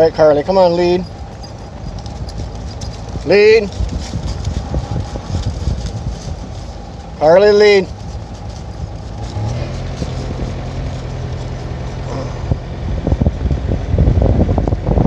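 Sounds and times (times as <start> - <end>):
car engine hum: 0.0 - 15.0
rough uneven rumble: 0.0 - 15.0.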